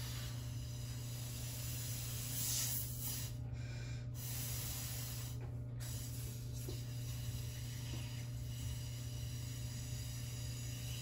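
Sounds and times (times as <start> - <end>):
breathy hiss through straw: 0.0 - 3.4, 4.2 - 11.0.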